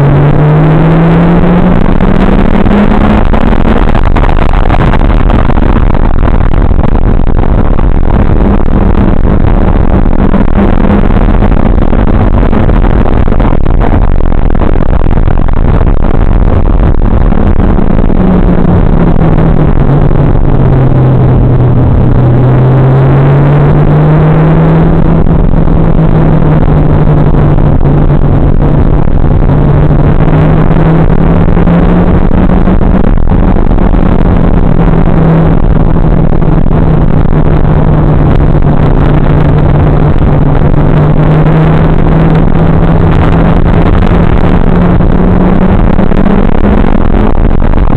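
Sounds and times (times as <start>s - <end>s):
car engine running hard: 0.0s - 47.9s
loud distorted noise: 0.0s - 47.9s.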